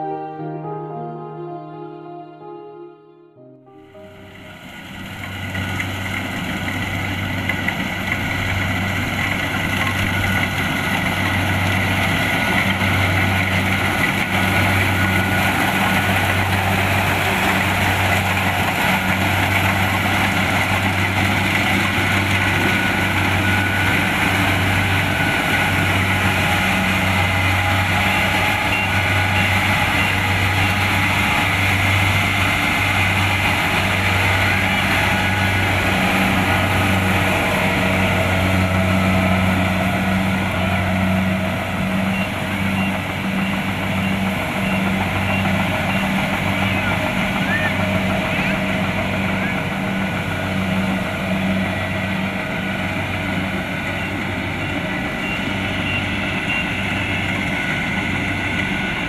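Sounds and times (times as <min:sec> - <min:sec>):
diesel engine droning: 0:03.8 - 0:59.0.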